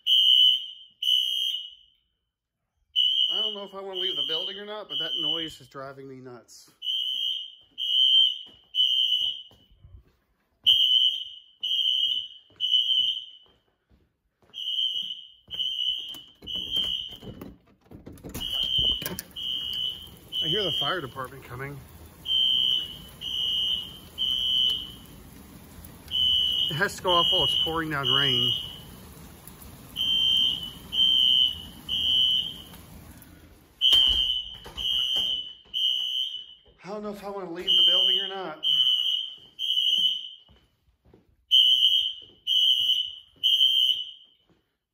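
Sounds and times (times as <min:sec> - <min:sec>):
fire alarm beeping: 0:00.0 - 0:02.2, 0:02.9 - 0:05.7, 0:06.7 - 0:09.9, 0:10.6 - 0:13.7, 0:14.5 - 0:17.5, 0:18.2 - 0:36.8, 0:37.5 - 0:40.6, 0:41.5 - 0:44.5.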